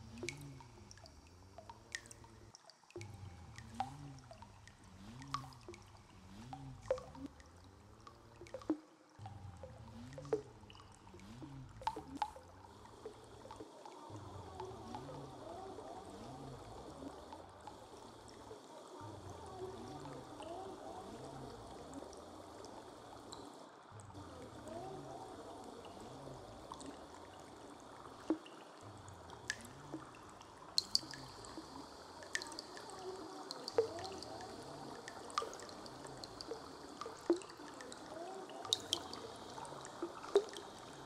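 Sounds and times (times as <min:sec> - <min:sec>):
low pulsing drone: 0:00.0 - 0:08.6, 0:09.2 - 0:23.4, 0:24.0 - 0:41.0
sharp drip-like clicks: 0:00.0 - 0:41.0
trickling stream water: 0:00.0 - 0:41.0.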